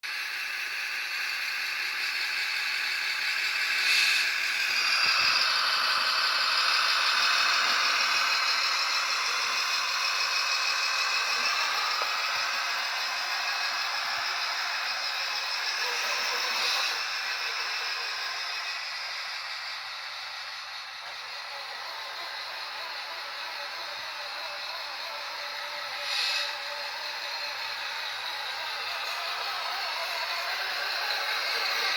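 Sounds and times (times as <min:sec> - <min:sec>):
electric motor whining: 0:00.3 - 0:31.9.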